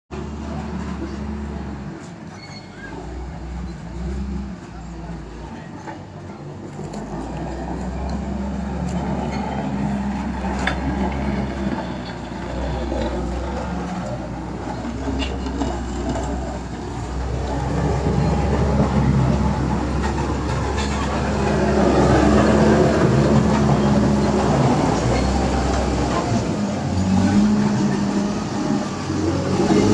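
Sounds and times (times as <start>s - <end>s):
diesel engine rumbling: 0.1s - 29.9s.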